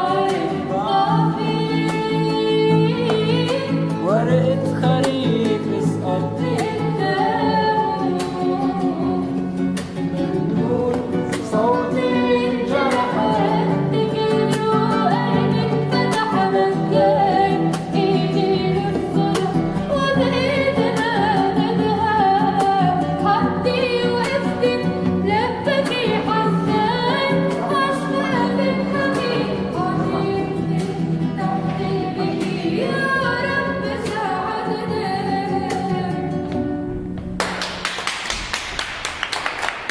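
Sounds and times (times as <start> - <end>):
girl singing: 0.0 - 9.6, 10.2 - 36.5
guitar accompaniment: 0.0 - 39.9.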